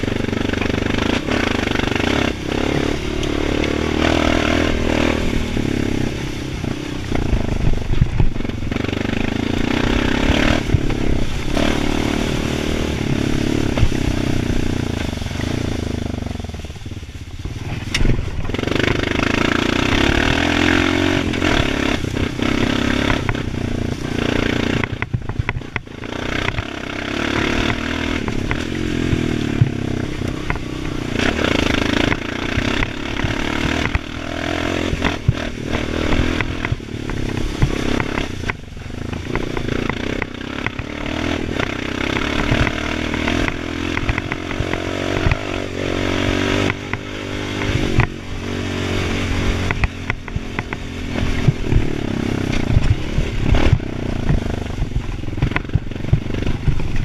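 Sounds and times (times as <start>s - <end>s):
atv engine revving: 0.0s - 57.0s
knocks and rattles over rough ground: 0.0s - 57.0s.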